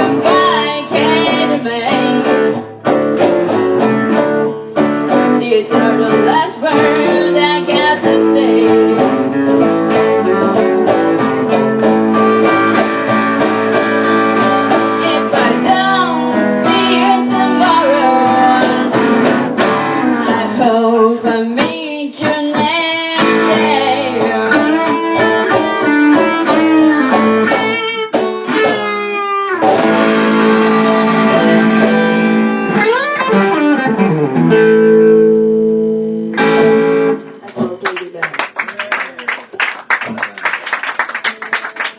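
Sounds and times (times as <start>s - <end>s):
blues guitar playing: 0.0s - 37.9s.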